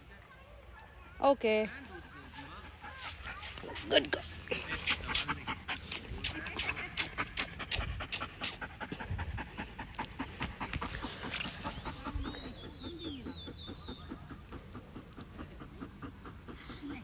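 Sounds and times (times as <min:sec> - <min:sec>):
dog panting: 0:02.4 - 0:17.0.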